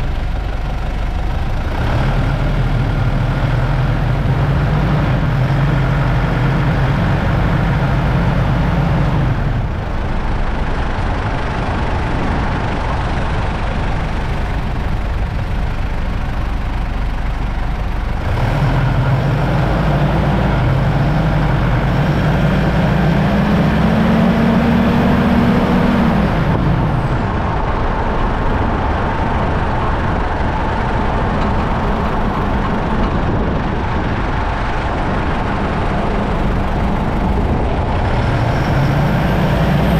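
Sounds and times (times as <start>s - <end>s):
car engine: 0.0s - 39.9s
road noise: 0.0s - 39.9s.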